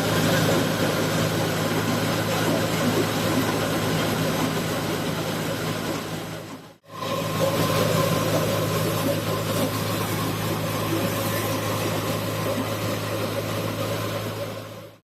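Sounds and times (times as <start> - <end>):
threshing machine running: 0.0 - 15.0.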